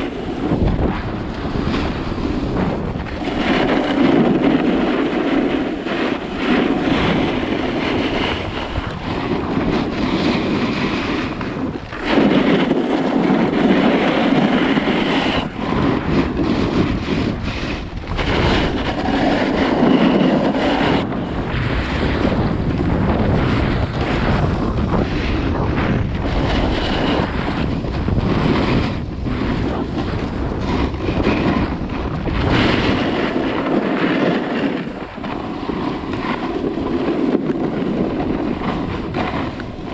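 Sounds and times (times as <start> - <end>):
skis sliding on snow: 0.0 - 39.9
wind on camera microphone: 0.0 - 39.9.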